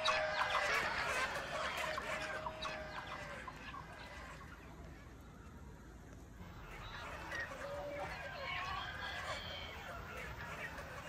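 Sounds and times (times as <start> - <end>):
chickens clucking over loudspeaker: 0.0 - 5.3, 6.4 - 11.0.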